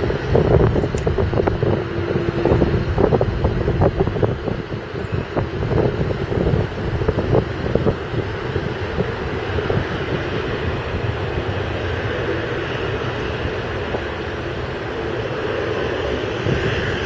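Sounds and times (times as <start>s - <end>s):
jet engines roaring: 0.0s - 17.0s
wind buffeting microphone: 0.0s - 17.0s.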